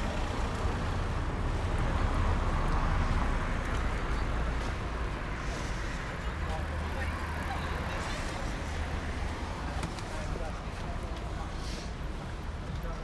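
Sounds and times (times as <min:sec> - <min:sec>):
road traffic rumble: 0:00.0 - 0:12.6.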